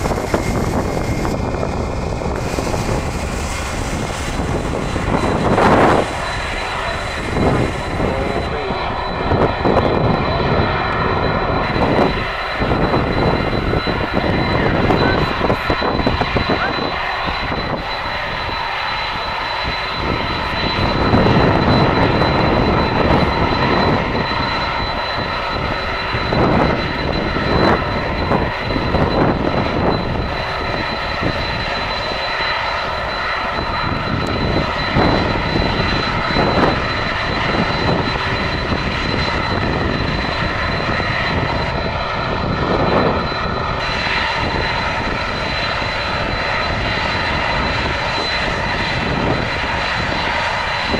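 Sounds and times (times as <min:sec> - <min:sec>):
airliner engines droning: 0:00.0 - 0:50.9.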